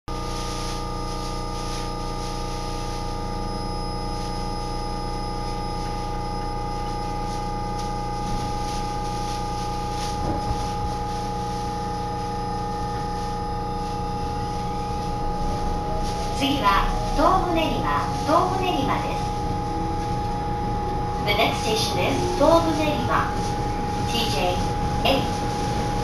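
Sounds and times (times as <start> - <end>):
electric train hum: 0.1 - 26.0
faint rising train whine: 3.2 - 26.0.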